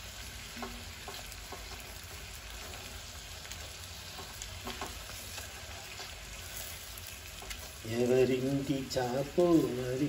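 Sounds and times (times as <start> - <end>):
fish sizzling in oil: 0.0 - 10.0.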